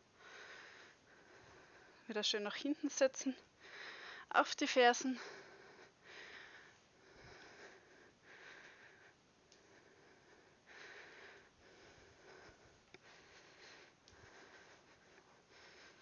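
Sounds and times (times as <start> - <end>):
woman breathing heavily: 0.0 - 2.6, 3.4 - 4.4, 5.0 - 16.0.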